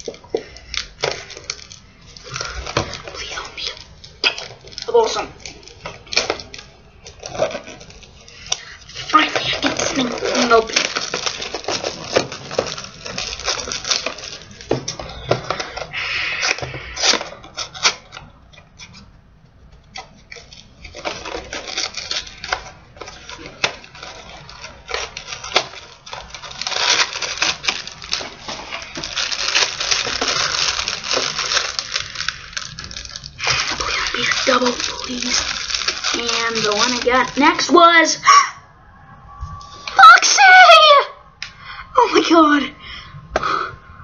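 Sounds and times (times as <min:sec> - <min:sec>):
plastic packaging crinkling: 0:00.0 - 0:42.6.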